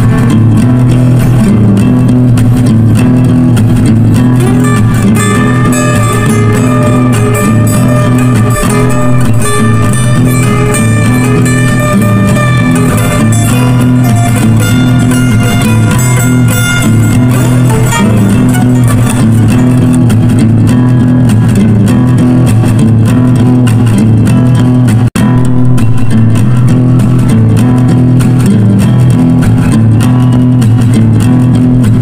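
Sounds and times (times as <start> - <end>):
plucked guitar music: 0.0 - 32.0
steady low bass line: 0.0 - 32.0.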